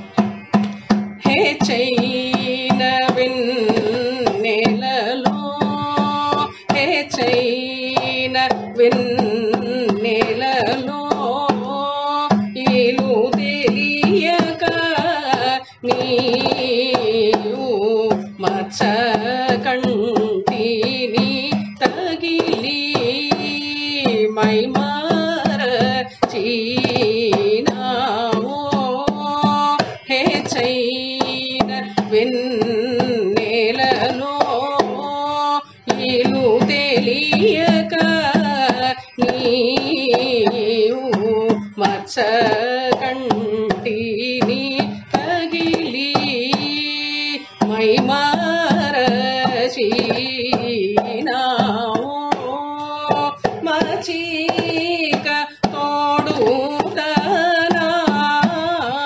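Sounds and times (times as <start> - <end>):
hand drum strokes: 0.0 - 59.0.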